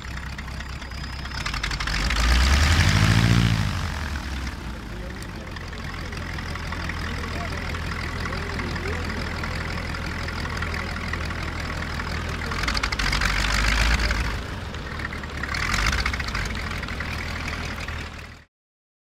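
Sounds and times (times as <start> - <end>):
radial aircraft engine running: 0.0 - 18.5.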